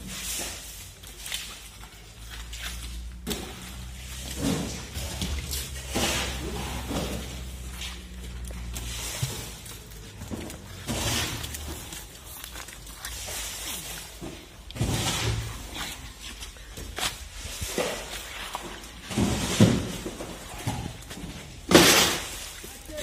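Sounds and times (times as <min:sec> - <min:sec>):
wet fish slapping on stone floor: 0:00.0 - 0:23.0.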